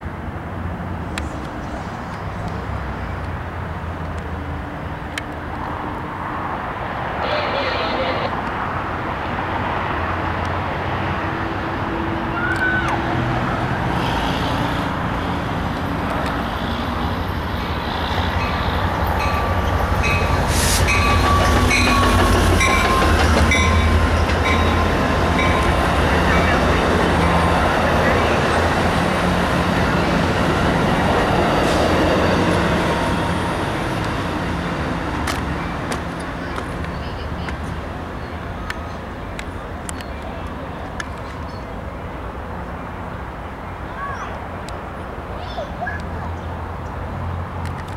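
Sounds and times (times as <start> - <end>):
diesel locomotive drone: 0.0 - 45.4
passenger train rumbling: 0.0 - 47.9.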